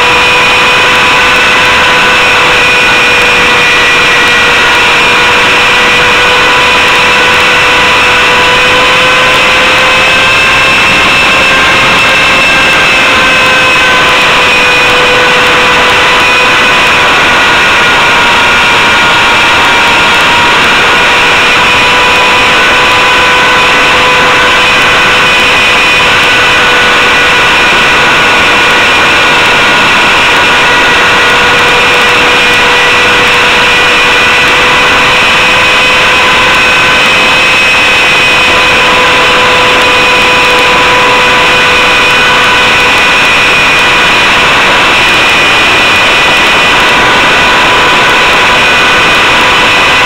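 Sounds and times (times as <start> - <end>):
rc helicopter motor whine: 0.0 - 50.0
rotor rushing noise: 0.0 - 50.0.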